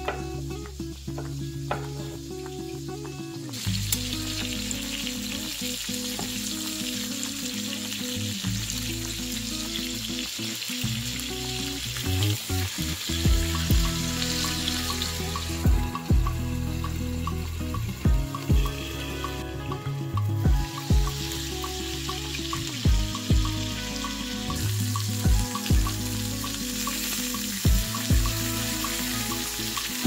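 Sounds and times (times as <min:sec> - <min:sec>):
chicken sizzling in a pan: 0:00.0 - 0:30.0
light background music: 0:00.0 - 0:30.0.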